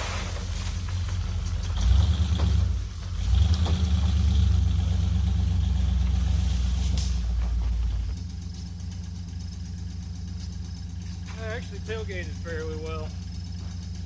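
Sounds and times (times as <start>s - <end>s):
pickup engine running: 0.0s - 14.0s.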